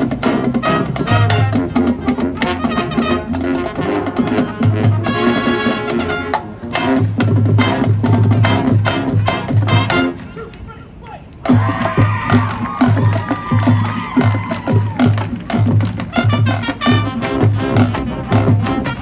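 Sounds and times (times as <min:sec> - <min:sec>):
drumline: 0:00.0 - 0:19.0
marching band brass: 0:00.0 - 0:19.0.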